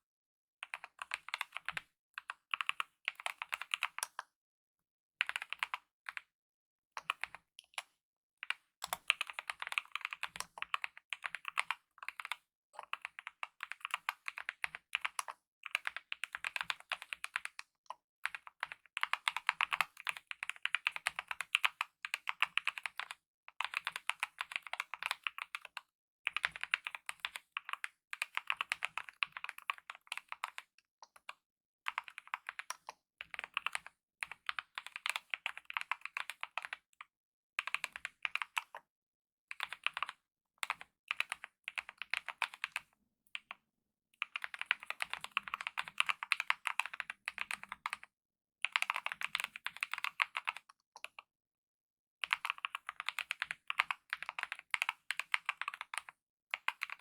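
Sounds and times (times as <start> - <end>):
fast typing on mechanical keyboard: 0.7 - 4.2, 5.3 - 6.2, 8.8 - 17.6, 18.2 - 30.7, 31.9 - 36.8, 37.6 - 38.7, 39.6 - 42.9, 44.2 - 51.2, 52.2 - 57.0.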